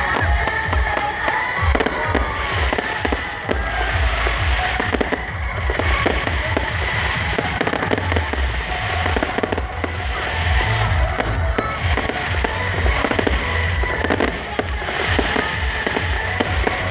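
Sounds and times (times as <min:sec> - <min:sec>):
loud music with heavy bass beat: 0:00.0 - 0:16.9.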